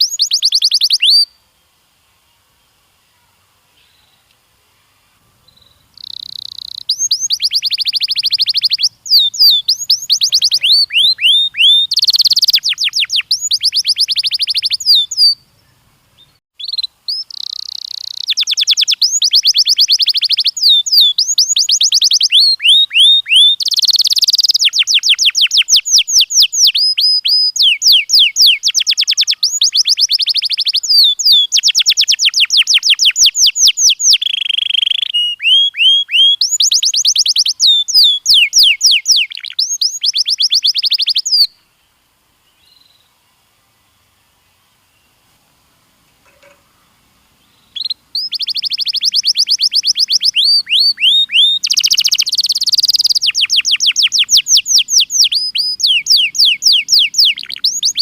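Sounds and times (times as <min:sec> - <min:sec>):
canary singing trills: 0:00.0 - 0:01.4, 0:05.2 - 0:41.6, 0:46.2 - 0:58.0.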